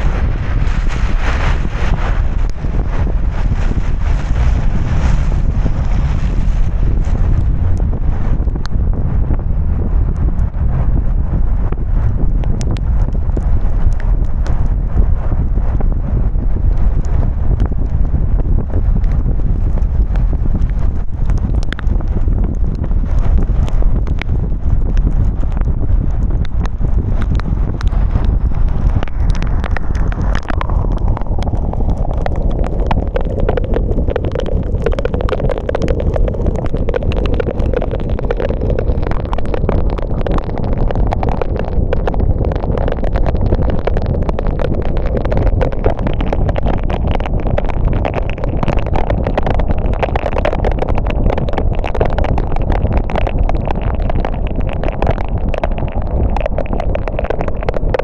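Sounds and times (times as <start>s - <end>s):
raindrops ticking: 0.0s - 9.0s, 11.7s - 58.0s
road and tyre rumble: 0.0s - 54.2s.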